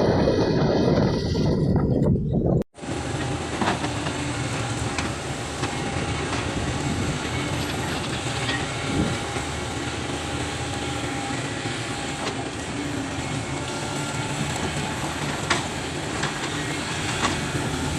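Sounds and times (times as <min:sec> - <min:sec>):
excavator diesel engine running: 0:02.8 - 0:17.9.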